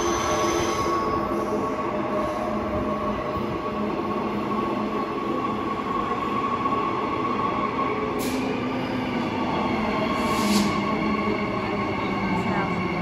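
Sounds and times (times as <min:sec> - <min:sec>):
electric train rumbling and whining: 0:00.0 - 0:13.0.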